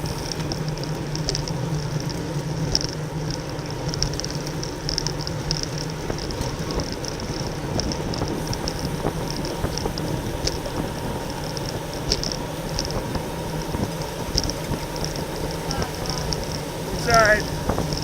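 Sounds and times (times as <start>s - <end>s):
wind and road noise rumble: 0.0s - 18.0s.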